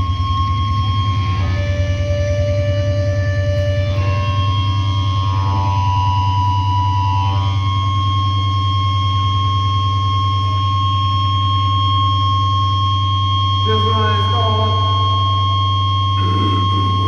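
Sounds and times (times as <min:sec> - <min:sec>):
deep amplifier hum: 0:00.0 - 0:17.0
sustained electronic drone: 0:00.0 - 0:17.0.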